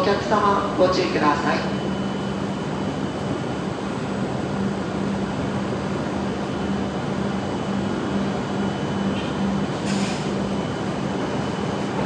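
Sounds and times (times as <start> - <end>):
train rumble and hum: 0.0 - 12.0.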